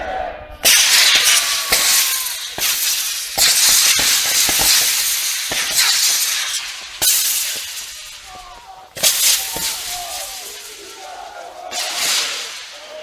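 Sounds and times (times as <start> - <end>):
flares burning with loud hiss: 0.6 - 13.0
sharp bangs: 0.6 - 13.0.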